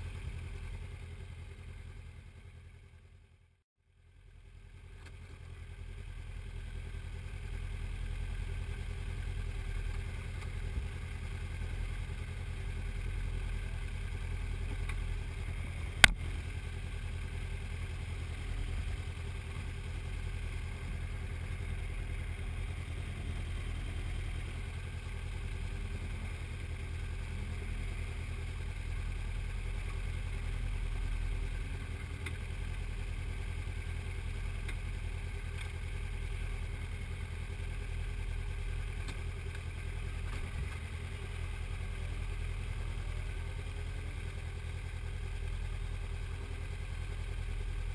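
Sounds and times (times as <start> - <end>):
racing car engine rumble: 4.2 - 47.9.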